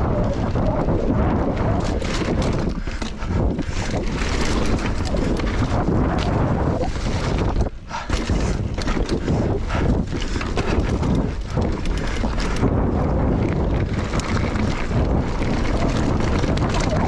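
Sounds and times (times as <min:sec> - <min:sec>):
bike rattling over bumps: 0:00.0 - 0:17.0
wind rushing over microphone: 0:00.0 - 0:17.0.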